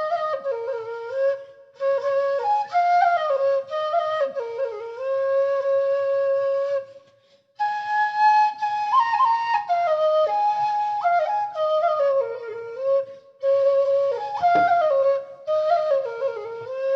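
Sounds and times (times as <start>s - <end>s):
bamboo flute melody: 0.0s - 16.9s.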